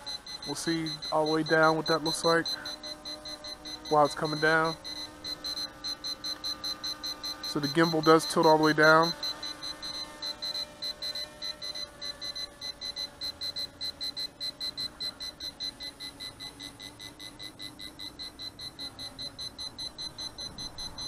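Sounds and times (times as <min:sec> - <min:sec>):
rapid high-pitched warning beeping: 0:00.0 - 0:21.0.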